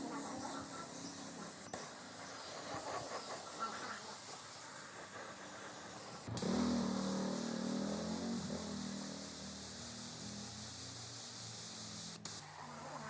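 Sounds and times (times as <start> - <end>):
air compressor motor humming: 0.0 - 11.3
spray gun hissing: 0.0 - 13.0.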